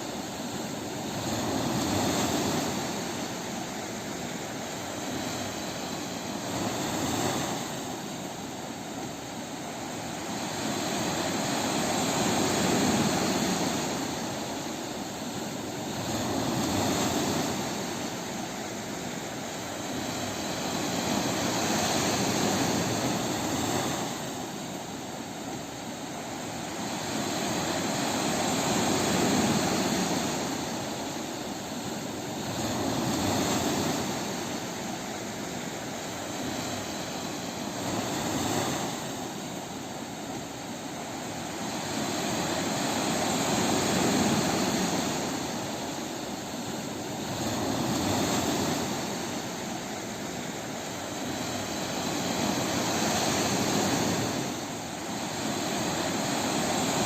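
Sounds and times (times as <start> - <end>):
ocean waves breaking on a beach: 0.0 - 57.0.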